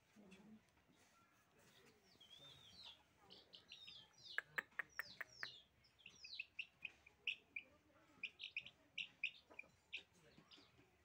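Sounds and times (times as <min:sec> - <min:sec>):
chicks peeping: 0:01.0 - 0:11.0.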